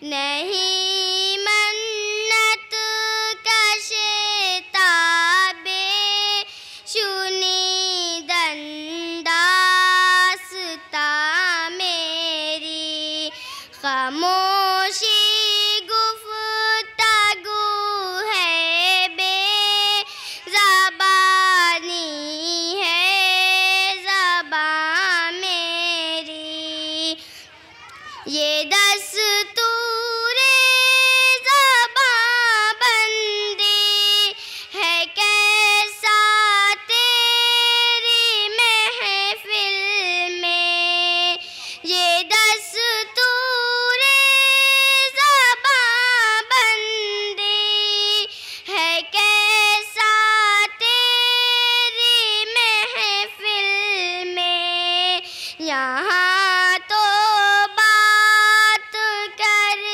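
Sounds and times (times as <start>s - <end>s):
girl singing unaccompanied: 0.0s - 59.9s.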